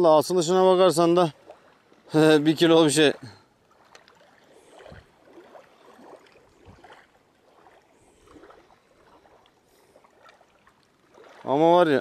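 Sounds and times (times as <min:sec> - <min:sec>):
faint water lapping: 0:00.0 - 0:12.0
soft splashes: 0:00.2 - 0:12.0.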